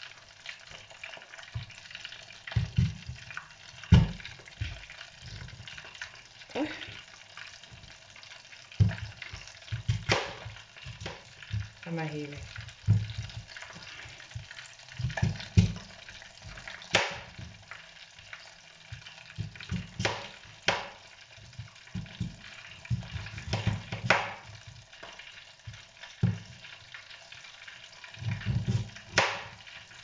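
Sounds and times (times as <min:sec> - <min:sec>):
deep-frying sizzle: 0:00.0 - 0:30.0.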